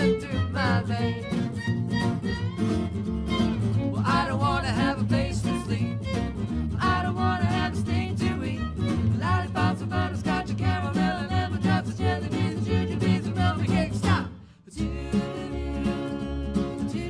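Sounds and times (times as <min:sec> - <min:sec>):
fast string music: 0:00.0 - 0:14.1.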